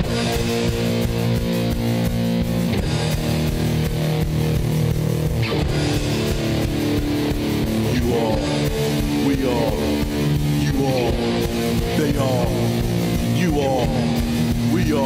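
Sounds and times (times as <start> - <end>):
electric guitar rock music: 0.0 - 15.0
low beat: 0.0 - 15.0.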